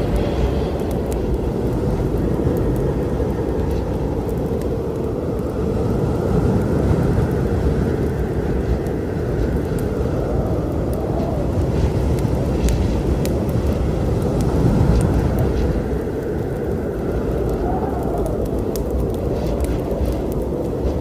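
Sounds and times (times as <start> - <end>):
wind: 0.0 - 21.0
wood fire crackling: 0.0 - 21.0.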